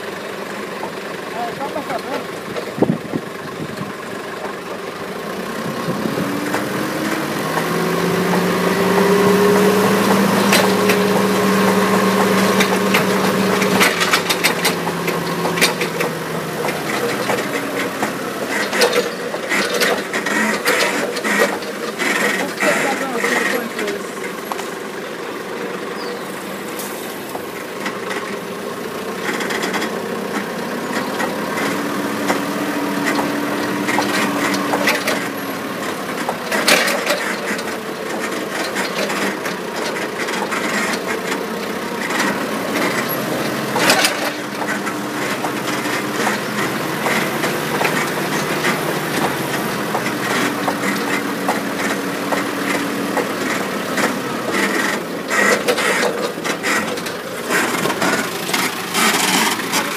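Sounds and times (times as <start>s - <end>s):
vehicle engine running: 0.0s - 59.9s
rattling: 5.6s - 25.0s, 29.2s - 59.9s.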